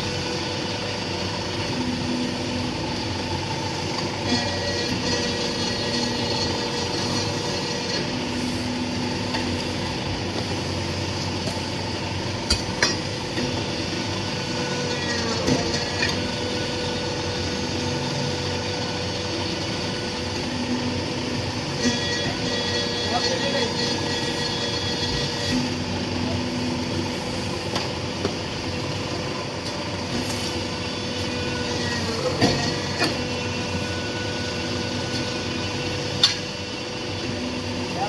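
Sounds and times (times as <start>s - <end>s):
brick-making machine motor hum: 0.0s - 38.0s.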